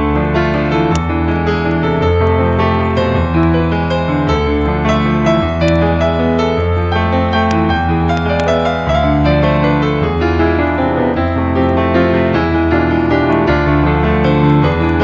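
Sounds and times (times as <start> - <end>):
slow calm piano music: 0.0 - 15.0
wood fire crackling: 0.0 - 15.0.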